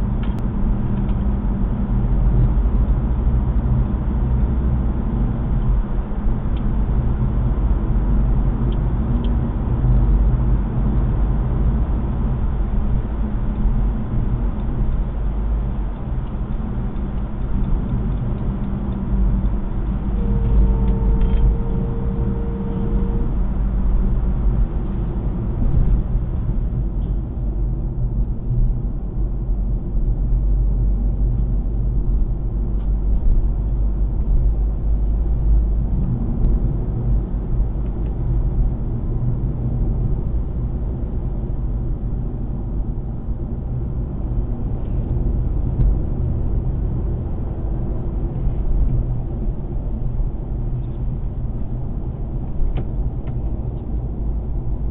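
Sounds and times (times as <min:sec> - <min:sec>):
car engine rumble: 0:00.0 - 0:54.9.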